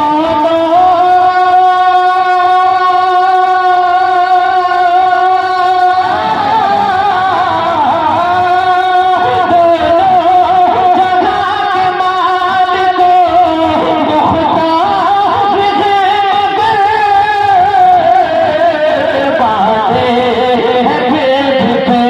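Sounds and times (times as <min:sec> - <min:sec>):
devotional vocal melody: 0:00.0 - 0:22.0.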